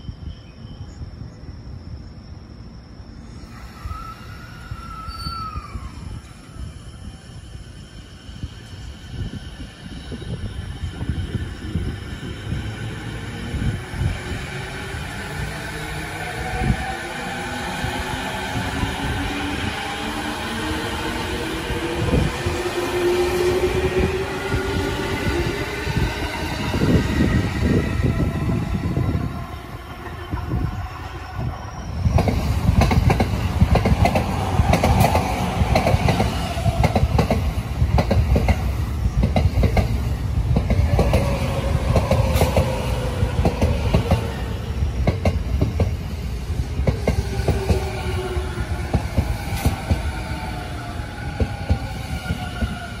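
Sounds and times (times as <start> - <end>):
train wheel rumble: 3.4 - 53.0.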